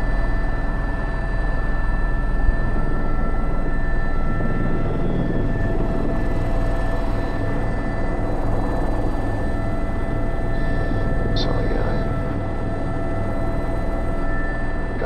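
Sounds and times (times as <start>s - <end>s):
helicopter engine whine: 0.0s - 15.0s
helicopter rotor beat: 0.0s - 15.0s.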